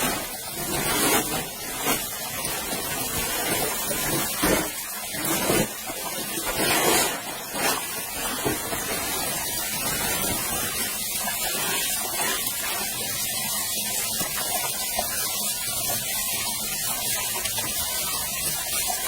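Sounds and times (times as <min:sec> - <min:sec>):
falling water rushing: 0:00.0 - 0:19.0.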